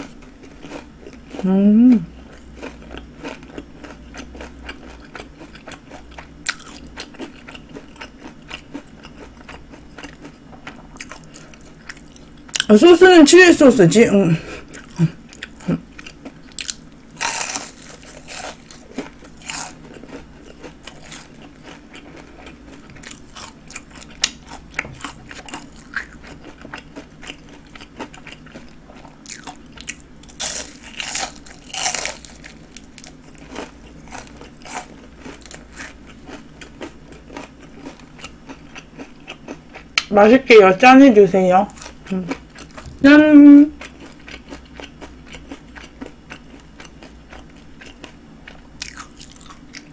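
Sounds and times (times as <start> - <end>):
crunchy chewing: 0.0 - 1.5, 2.1 - 12.7, 14.6 - 40.1, 41.7 - 43.0, 43.8 - 49.9.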